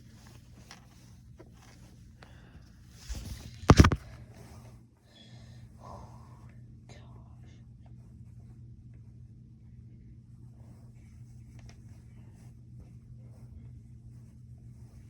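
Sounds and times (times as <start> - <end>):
soft whispery rustles: 0.0 - 4.9, 5.7 - 15.0.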